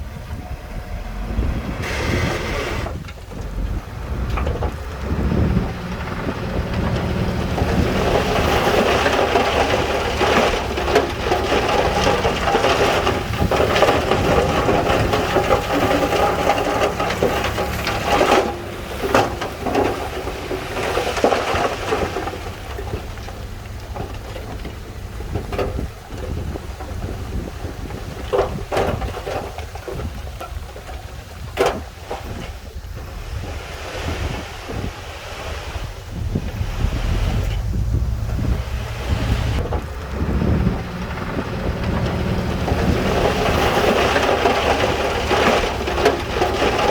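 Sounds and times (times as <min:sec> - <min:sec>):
diesel engine running: 0:00.0 - 0:46.9
rocks clattering and tumbling: 0:00.3 - 0:46.9.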